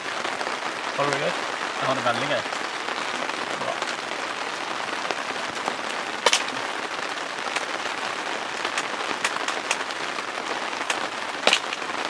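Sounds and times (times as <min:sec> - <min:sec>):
rain on tent fabric: 0:00.0 - 0:12.0.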